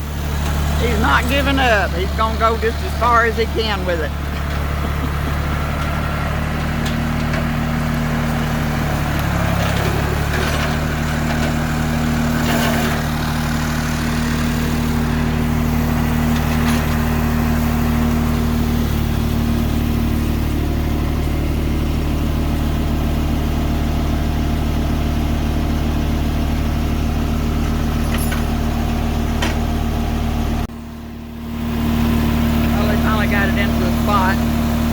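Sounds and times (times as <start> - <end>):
tractor engine under load: 0.0 - 34.9.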